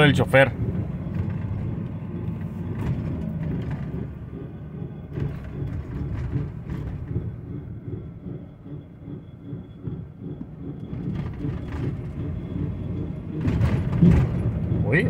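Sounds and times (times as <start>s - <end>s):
rhythmic wheel rumbling: 0.0s - 15.0s
road noise: 0.0s - 15.0s.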